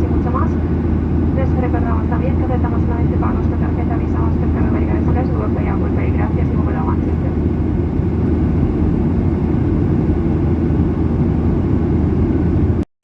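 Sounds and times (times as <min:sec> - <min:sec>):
airplane cabin drone: 0:00.0 - 0:12.9.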